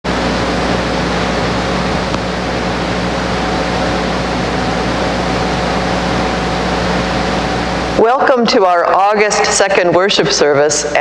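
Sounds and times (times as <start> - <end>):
ventilation hiss and hum: 0.0 - 11.0.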